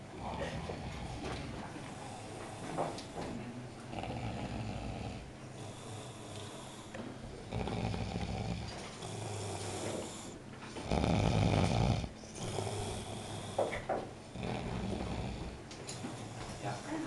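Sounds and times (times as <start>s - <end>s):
low rough snoring: 0.0s - 17.0s.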